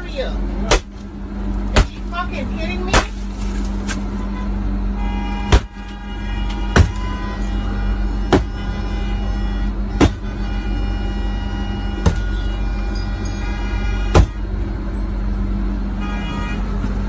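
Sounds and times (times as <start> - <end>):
bus engine idling: 0.0 - 17.0.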